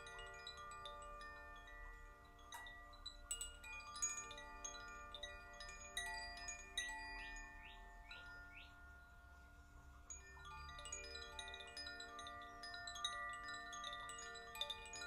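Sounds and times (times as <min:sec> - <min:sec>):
wind chime tinkling: 0:00.0 - 0:15.0.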